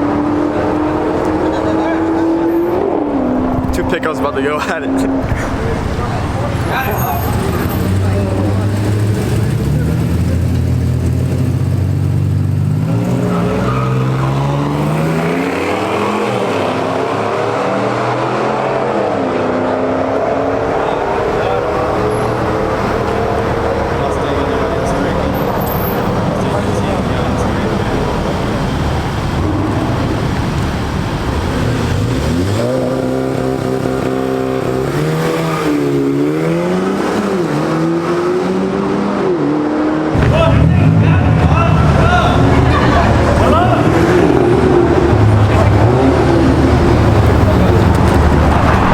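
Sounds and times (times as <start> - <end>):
truck engines accelerating: 0.0 - 48.9.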